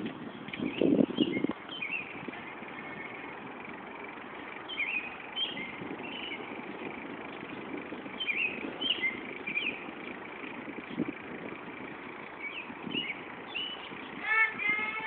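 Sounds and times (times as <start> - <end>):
small birds chirping: 0.0 - 15.0
outdoor background hiss: 0.2 - 15.0.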